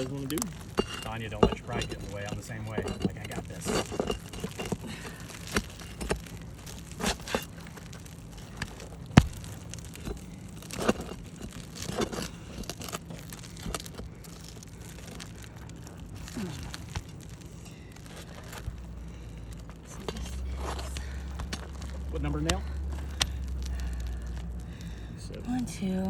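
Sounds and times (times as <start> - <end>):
roof shingles crunching and scraping: 0.0 - 25.1.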